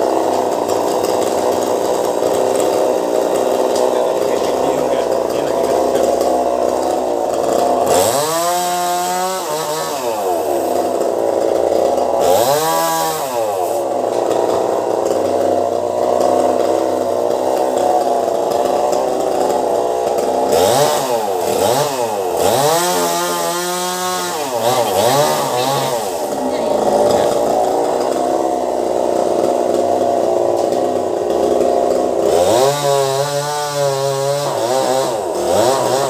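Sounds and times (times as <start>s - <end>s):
chainsaw cutting and revving: 0.0s - 36.0s.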